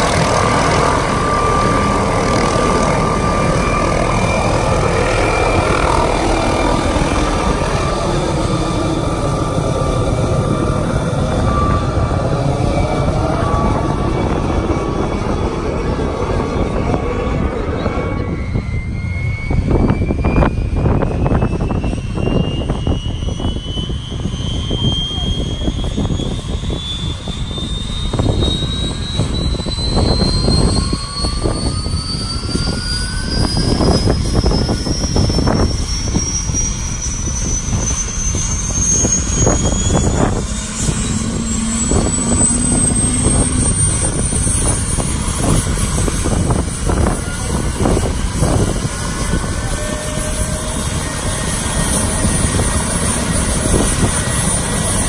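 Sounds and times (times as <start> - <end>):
helicopter engine whine spooling up: 0.0 - 55.0
low rumble of rotor: 0.0 - 55.0.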